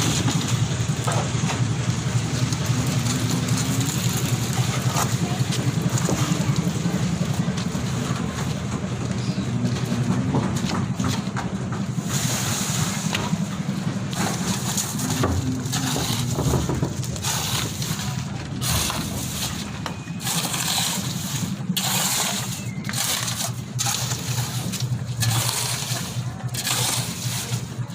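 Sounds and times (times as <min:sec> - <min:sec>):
machine engine throbbing rumble: 0:00.0 - 0:27.9.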